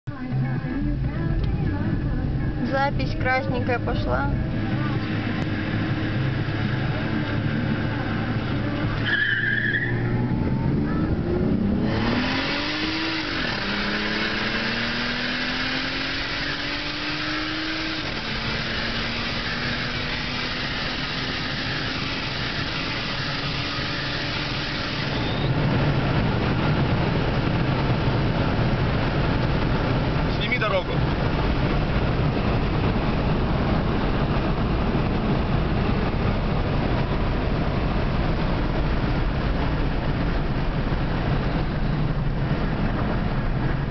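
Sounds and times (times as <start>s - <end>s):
car engine accelerating: 0.0s - 43.9s
road and wind noise: 0.0s - 43.9s.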